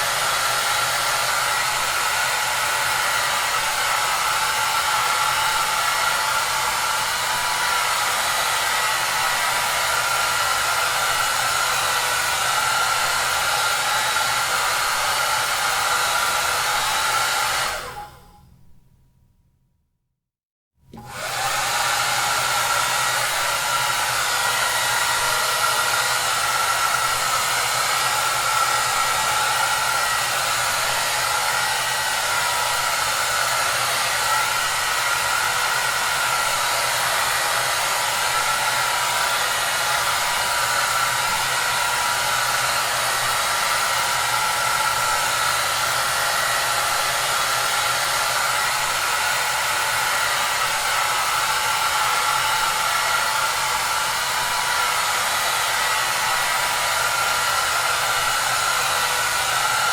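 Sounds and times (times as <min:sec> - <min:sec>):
hair dryer running: 0:00.0 - 0:18.4, 0:20.9 - 0:59.9.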